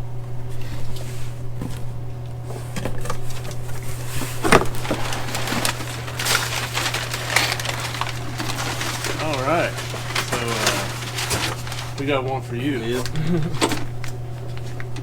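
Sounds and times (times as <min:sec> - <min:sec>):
steady low hum: 0:00.0 - 0:15.0
packaging rustling and crinkling: 0:00.8 - 0:15.0.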